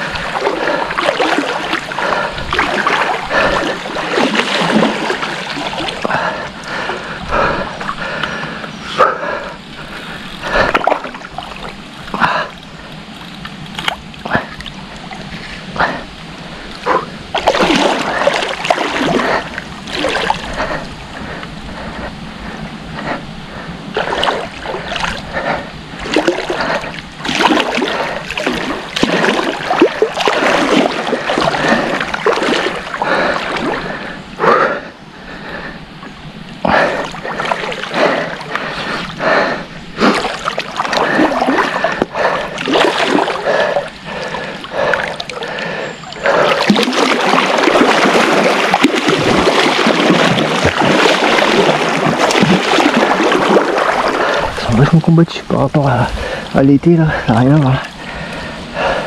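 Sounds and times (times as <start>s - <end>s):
river water splashing: 0.0s - 59.0s.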